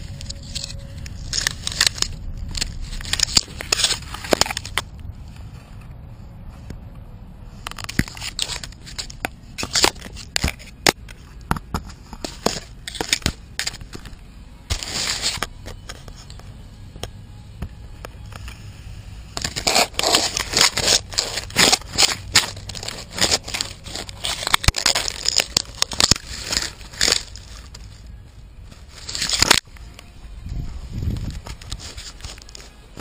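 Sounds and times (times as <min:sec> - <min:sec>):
twigs scraping and cracking: 0:00.0 - 0:05.0, 0:07.5 - 0:17.1, 0:19.3 - 0:33.0.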